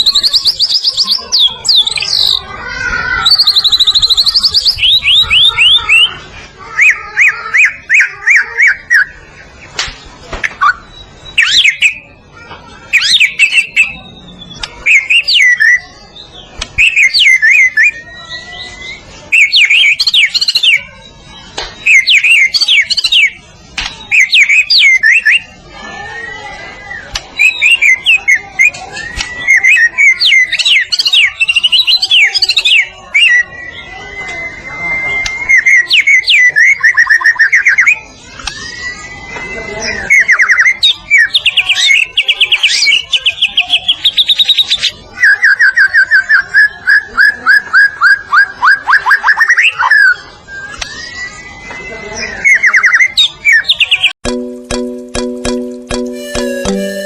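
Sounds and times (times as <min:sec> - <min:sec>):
bird singing trills and whistles: 0:00.0 - 0:02.4, 0:03.2 - 0:09.7, 0:10.4 - 0:12.2, 0:12.8 - 0:25.6, 0:26.2 - 0:54.2.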